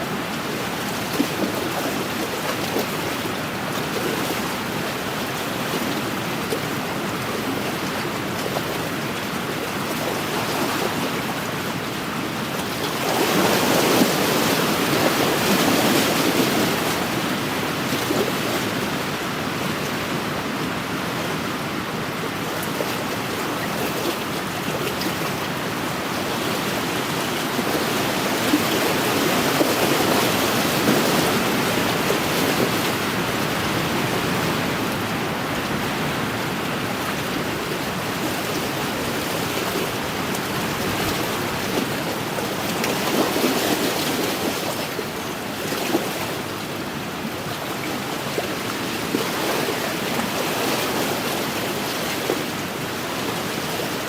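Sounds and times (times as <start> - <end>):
waves washing against shore: 0.0 - 54.0
wind: 0.0 - 54.0.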